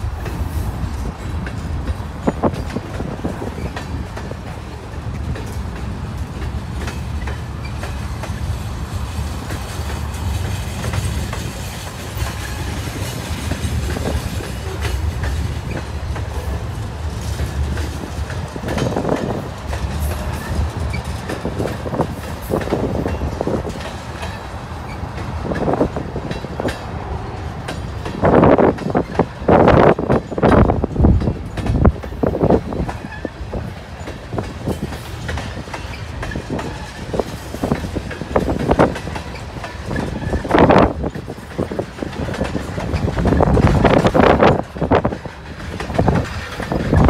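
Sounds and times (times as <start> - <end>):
clickety-clack of rail joints: 0.0 - 47.0
train wheels rumbling on rail: 0.0 - 47.0.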